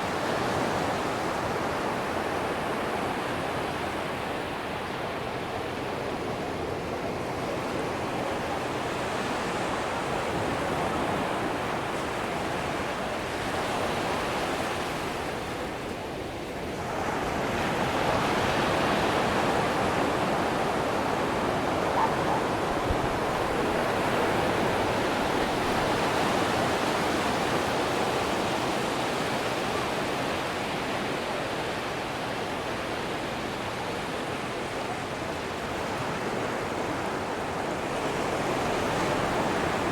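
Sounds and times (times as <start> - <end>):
surf waves breaking: 0.0 - 39.9.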